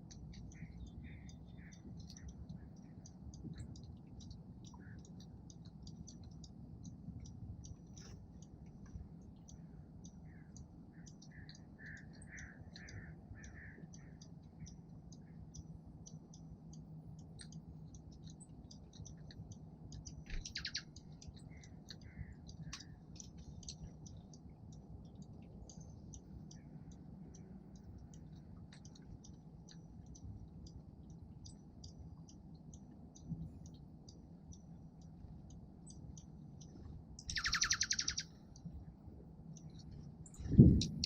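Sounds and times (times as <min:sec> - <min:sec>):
low steady hum: 0:00.0 - 0:41.0
soft warbled bird notes: 0:00.0 - 0:41.0
songbirds chipping: 0:00.0 - 0:41.0.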